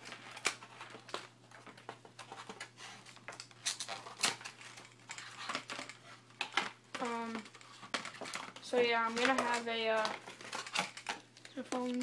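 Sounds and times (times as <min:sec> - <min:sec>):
cardboard rustling and clicking: 0:00.0 - 0:12.0.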